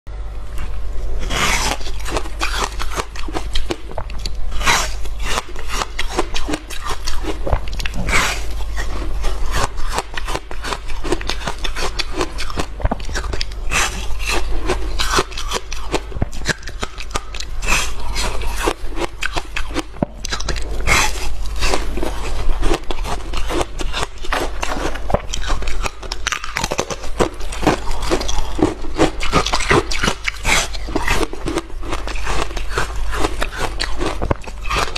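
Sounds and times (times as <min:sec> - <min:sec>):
low hum: 0:00.1 - 0:34.9
chewing hard ice: 0:00.6 - 0:34.9.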